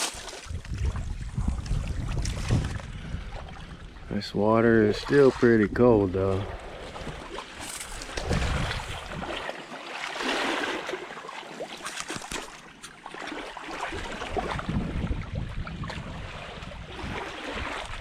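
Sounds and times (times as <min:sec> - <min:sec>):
river water splashing: 0:00.0 - 0:18.0.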